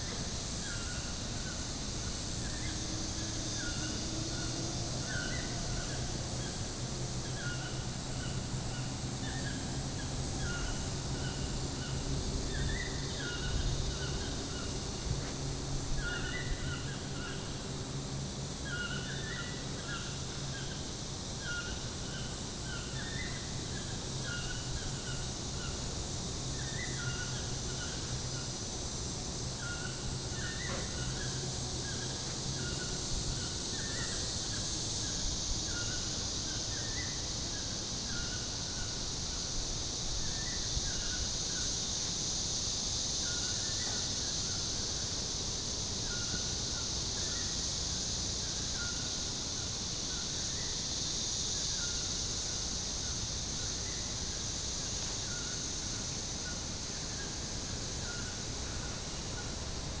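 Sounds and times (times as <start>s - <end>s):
steady high hiss: 0.0s - 60.0s.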